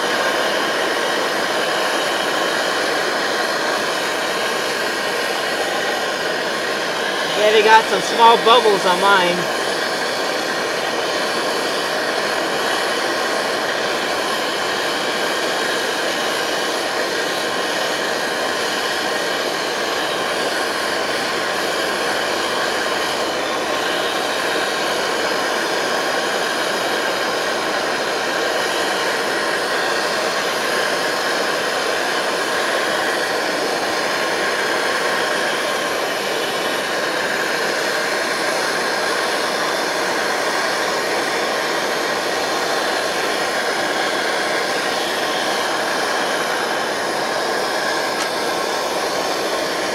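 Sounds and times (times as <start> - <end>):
stove burning with rushing hiss: 0.0 - 49.9.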